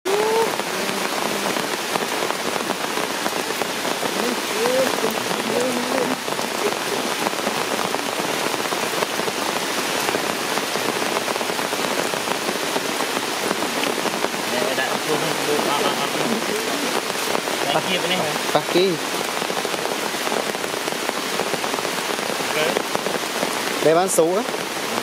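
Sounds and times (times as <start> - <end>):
rain on leaves and rock: 0.0 - 25.0.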